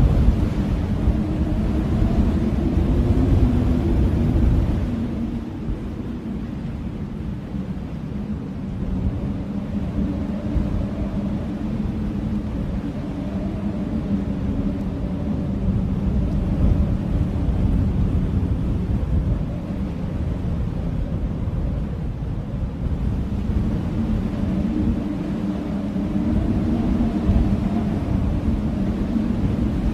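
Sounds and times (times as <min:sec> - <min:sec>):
gusting blizzard wind: 0:00.0 - 0:29.9
wavering wind moan: 0:00.0 - 0:29.9.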